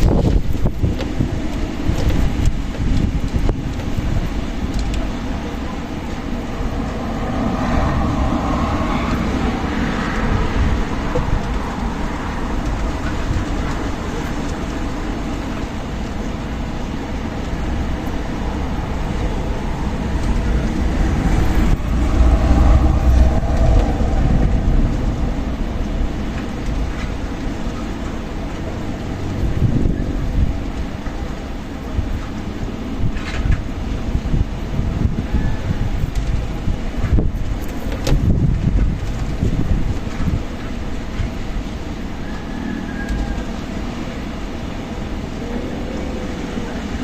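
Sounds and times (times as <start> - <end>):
strong wind gusting: 0.0 - 47.0.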